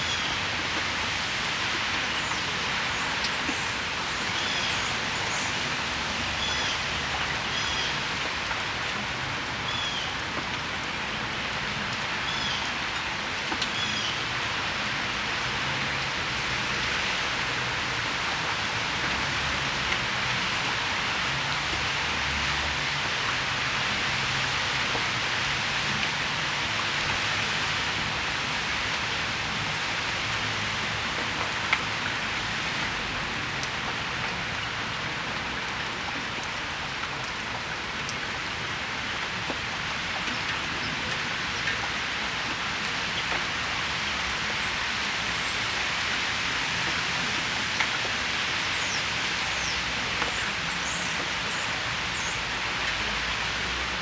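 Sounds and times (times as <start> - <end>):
rain falling on a patio: 0.0 - 54.0.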